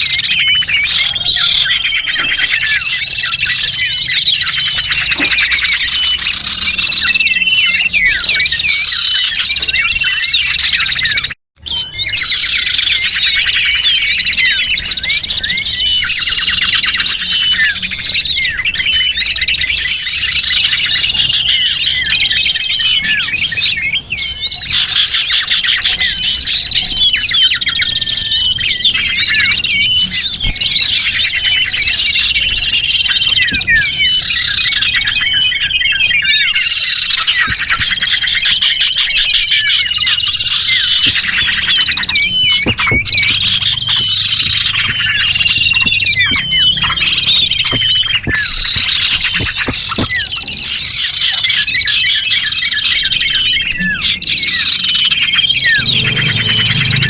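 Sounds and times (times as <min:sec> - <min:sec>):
small birds chirping and twittering: 0:00.0 - 0:57.0.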